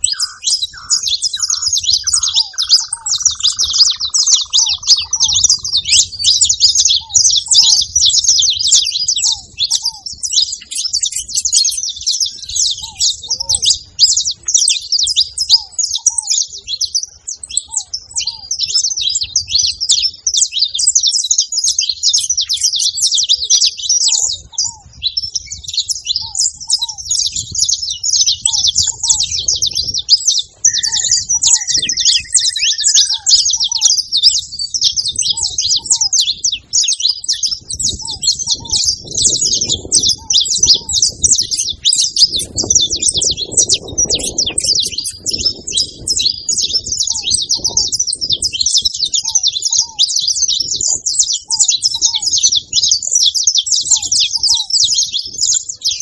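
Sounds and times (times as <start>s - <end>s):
finches chirping and twittering: 0.0s - 56.0s.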